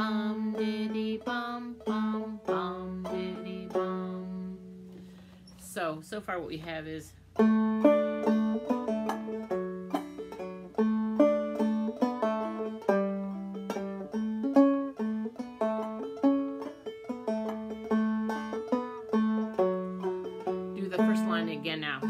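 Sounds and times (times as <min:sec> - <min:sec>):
banjo plucked melody: 0:00.0 - 0:05.2, 0:06.6 - 0:22.0.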